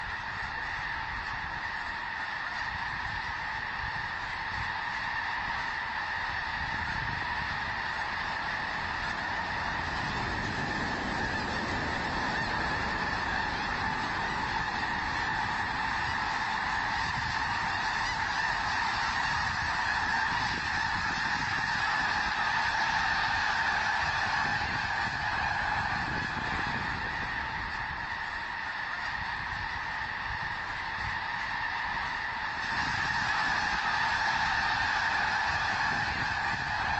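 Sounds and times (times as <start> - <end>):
flock of birds calling: 0.0 - 36.9.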